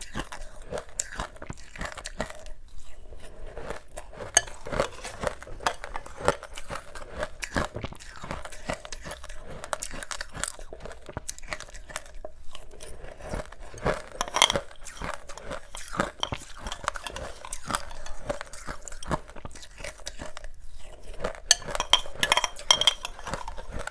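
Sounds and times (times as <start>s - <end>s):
chewing crunchy ice: 0.0s - 23.9s.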